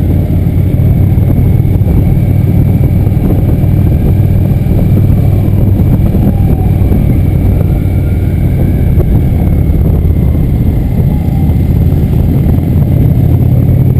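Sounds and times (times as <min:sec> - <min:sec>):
motorcycle engine rumbling: 0:00.0 - 0:13.9.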